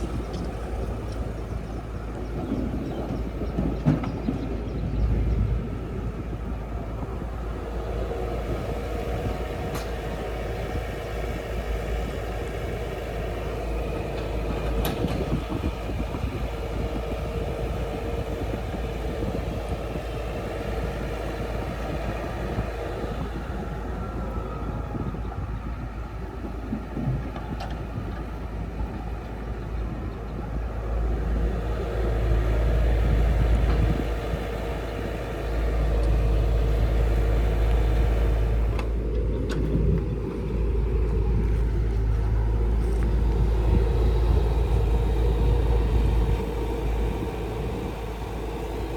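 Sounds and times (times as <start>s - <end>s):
diesel engines rumbling: 0.0s - 48.9s.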